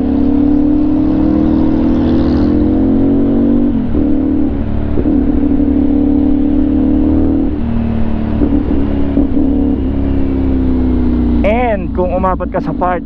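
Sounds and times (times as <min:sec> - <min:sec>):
motorcycle engine running: 0:00.0 - 0:13.0
traffic: 0:00.0 - 0:13.0.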